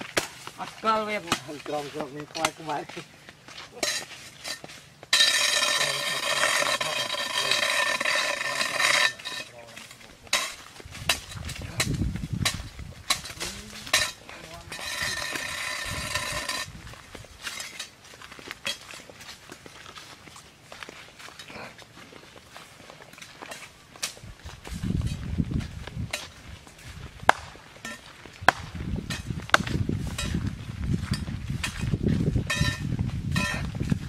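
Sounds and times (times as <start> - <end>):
footsteps on dirt path: 0.0 - 34.0.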